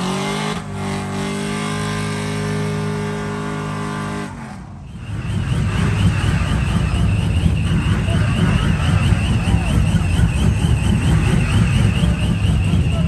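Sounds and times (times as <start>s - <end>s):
truck engine revving: 0.0s - 13.0s
high tire squeal: 2.4s - 13.0s.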